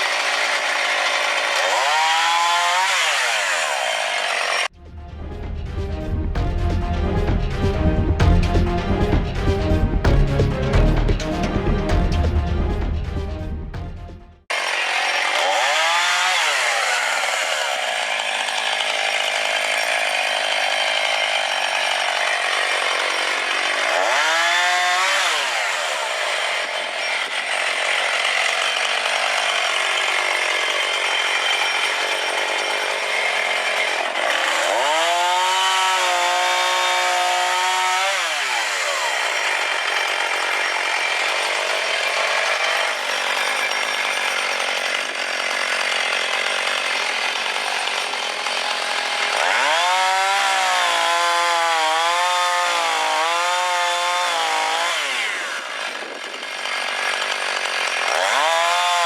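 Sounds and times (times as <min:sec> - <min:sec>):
chainsaw cutting wood: 0:00.0 - 0:04.7, 0:05.9 - 0:59.0.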